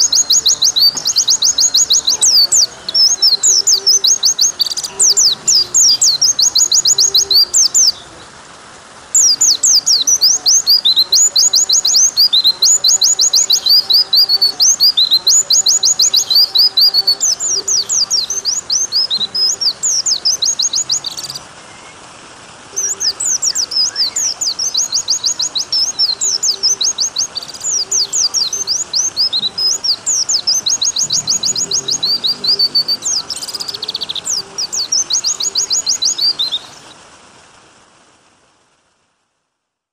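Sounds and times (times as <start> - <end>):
bird singing high trills: 0.0 - 8.3, 9.2 - 22.0, 22.8 - 37.0
running water: 0.0 - 39.4.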